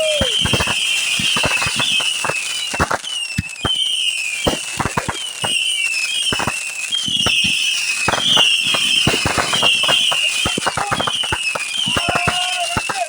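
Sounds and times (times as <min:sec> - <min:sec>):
fireworks bangs and crackles: 0:00.0 - 0:13.0
high firework whistle: 0:00.0 - 0:13.0.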